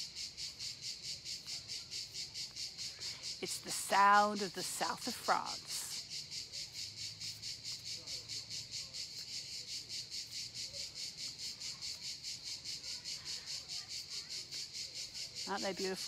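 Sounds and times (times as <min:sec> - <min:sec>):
cicadas chirring: 0:00.0 - 0:16.0.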